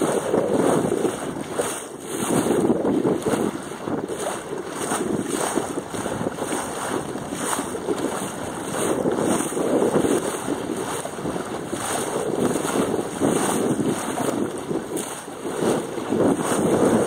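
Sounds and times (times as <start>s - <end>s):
choppy water wash: 0.0s - 17.0s
wind buffeting microphone: 0.0s - 17.0s.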